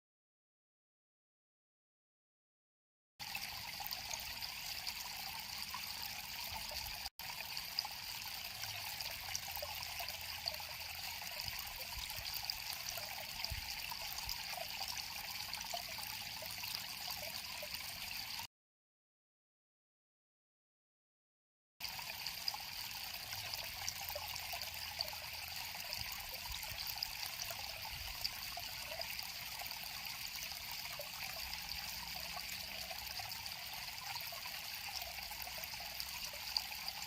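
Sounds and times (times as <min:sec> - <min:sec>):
river water flowing over stones: 0:03.2 - 0:18.4, 0:21.8 - 0:37.0.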